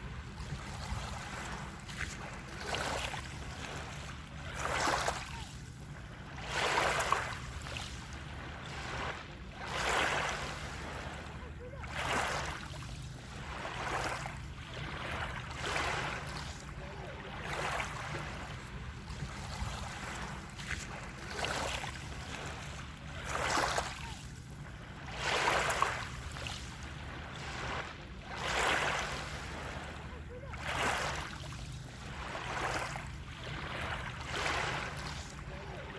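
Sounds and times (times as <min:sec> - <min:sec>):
steady low hum: 0:00.0 - 0:35.9
water waves splashing: 0:00.0 - 0:35.9.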